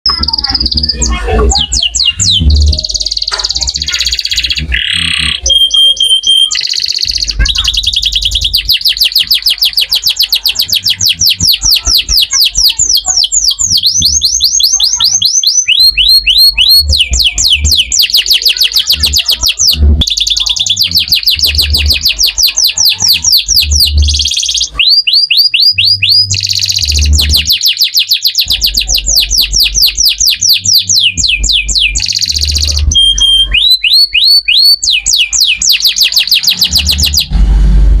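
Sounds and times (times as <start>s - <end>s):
canary singing trills: 0.1s - 37.4s.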